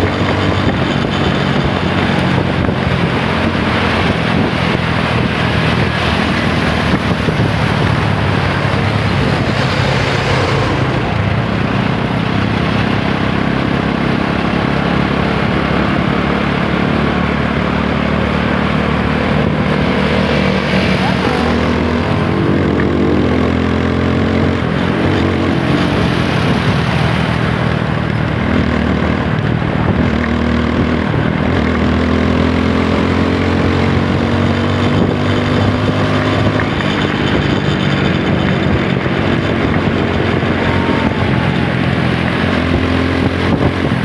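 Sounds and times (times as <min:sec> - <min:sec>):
motorcycle engine running: 0:00.0 - 0:44.0
wind on microphone: 0:00.0 - 0:44.0.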